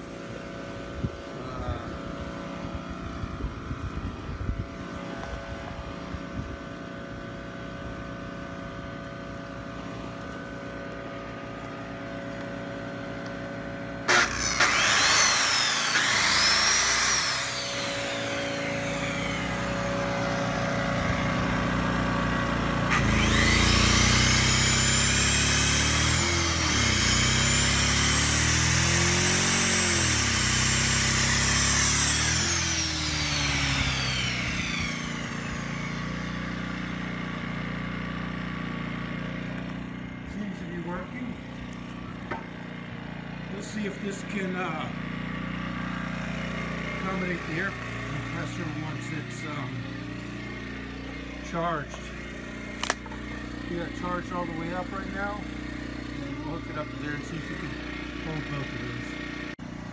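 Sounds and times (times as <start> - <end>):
generator engine running: 0.0 - 59.9
circular saw whining: 9.0 - 59.6.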